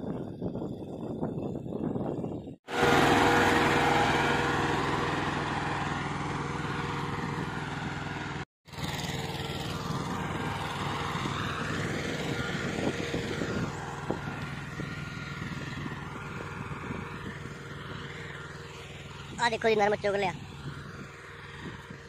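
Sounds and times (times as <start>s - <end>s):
tractor engine running: 2.7s - 22.0s.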